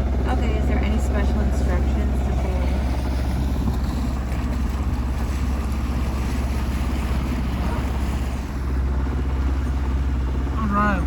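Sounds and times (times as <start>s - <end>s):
boat engine droning: 0.0s - 11.0s
water noise: 0.0s - 11.0s
wind: 0.0s - 11.0s.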